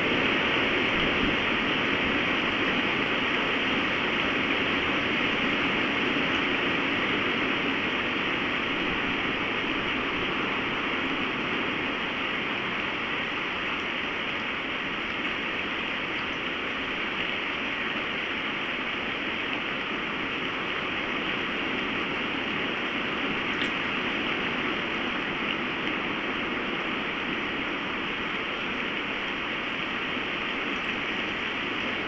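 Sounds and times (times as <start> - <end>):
storm wind blowing hard: 0.0 - 32.0.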